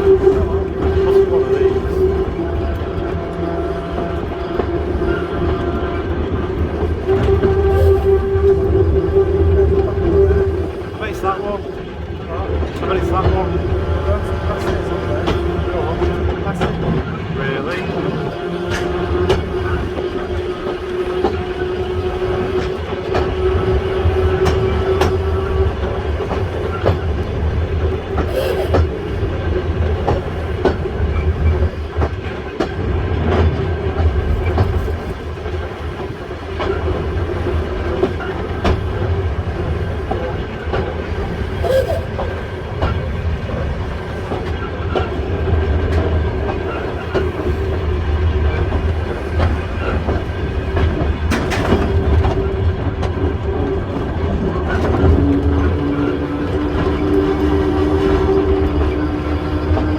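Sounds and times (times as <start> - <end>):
electric railway car rumbling: 0.0 - 59.9
wheels clicking over rail joints: 9.4 - 59.9.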